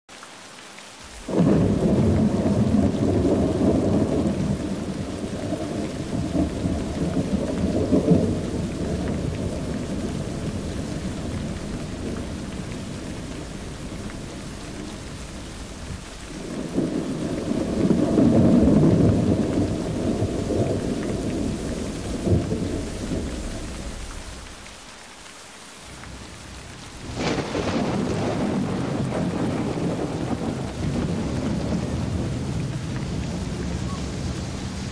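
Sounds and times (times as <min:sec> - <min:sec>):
heavy rain: 0:00.1 - 0:34.9
rolling thunder: 0:01.1 - 0:24.6, 0:26.2 - 0:34.9.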